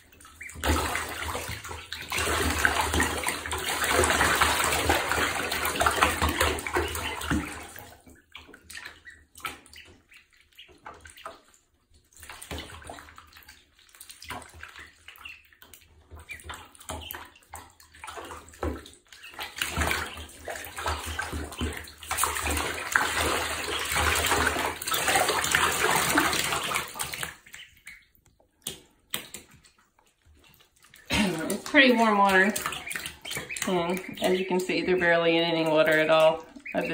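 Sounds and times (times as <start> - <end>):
ducklings splashing in water: 0.0 - 36.9.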